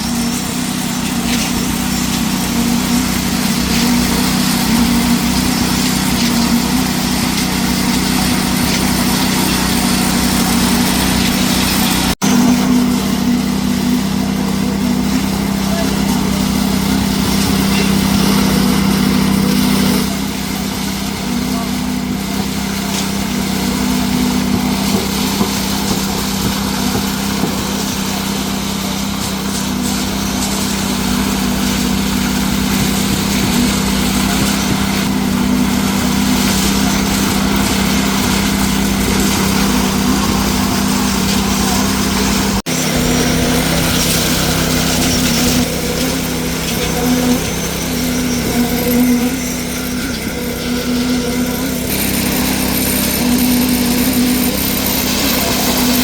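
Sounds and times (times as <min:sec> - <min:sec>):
concrete machinery engine running: 0:00.0 - 0:56.0.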